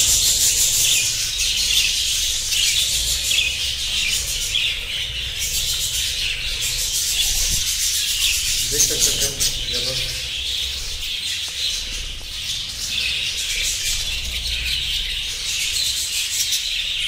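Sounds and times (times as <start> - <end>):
budgerigars chattering and chirping: 0.0 - 17.0.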